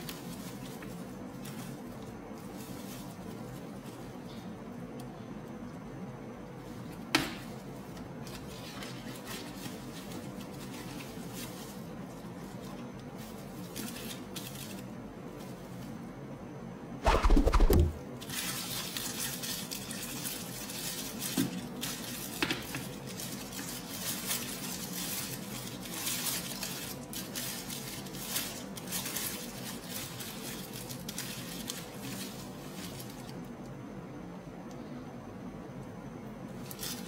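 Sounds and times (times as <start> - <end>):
plastic wrapping crinkling: 0.0 - 4.8, 6.6 - 16.1, 17.1 - 33.7, 36.5 - 37.0.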